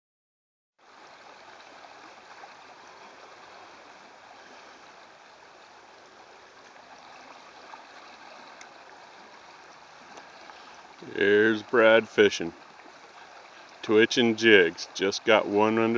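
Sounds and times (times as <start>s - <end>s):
river current rushing: 0.8s - 15.9s.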